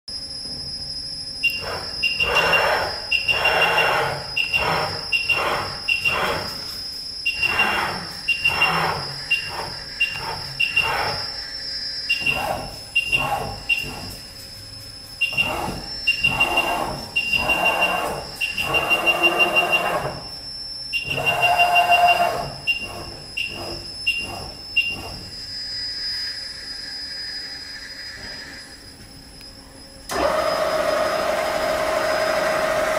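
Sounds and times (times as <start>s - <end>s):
squeal: 0.1s - 31.0s
milling machine high tone: 0.1s - 32.9s.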